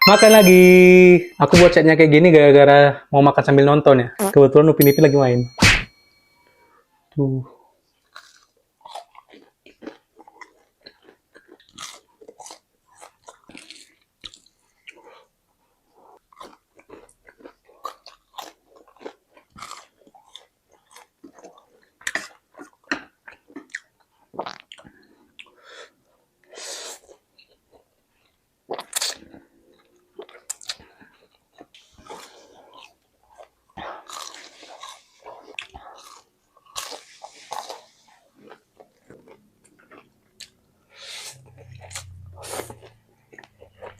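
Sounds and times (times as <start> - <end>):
mouth chewing and smacking: 8.0 - 15.3, 15.9 - 43.9.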